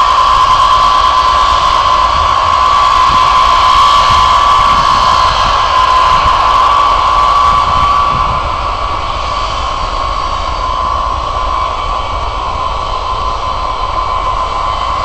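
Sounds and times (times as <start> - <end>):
jet engines taxiing: 0.0 - 15.0.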